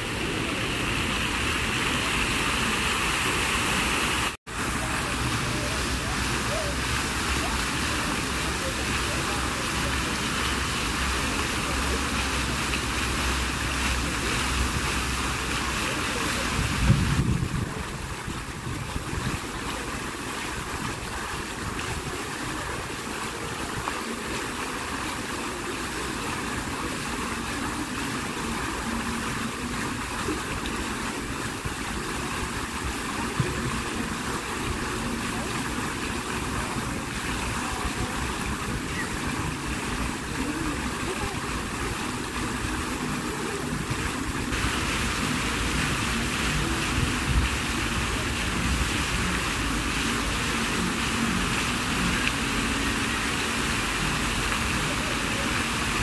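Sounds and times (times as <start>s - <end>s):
fountain splashing: 0.0s - 56.0s.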